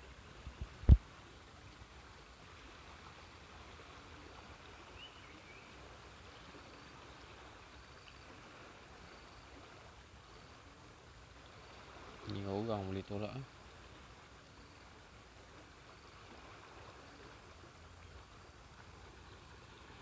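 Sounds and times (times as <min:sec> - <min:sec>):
fast-running river rushing: 0:00.0 - 0:20.0.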